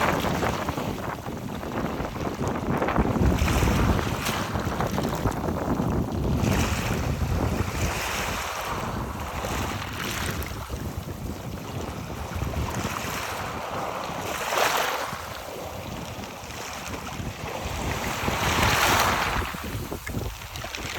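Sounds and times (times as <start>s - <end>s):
waves washing over rocks: 0.0s - 20.9s
wind buffeting microphone: 0.0s - 20.9s.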